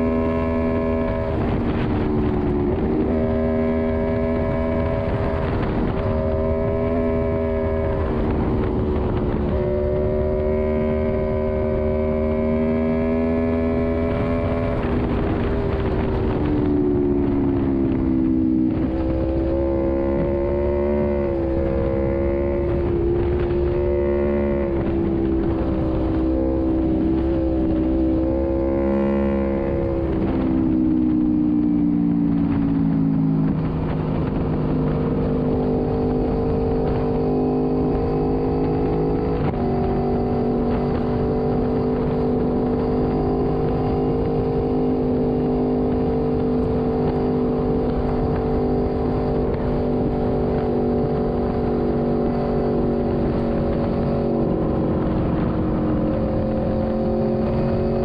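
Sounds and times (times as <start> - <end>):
motorcycle engine running: 0.0 - 58.0
wind and tyre rush: 0.0 - 58.0.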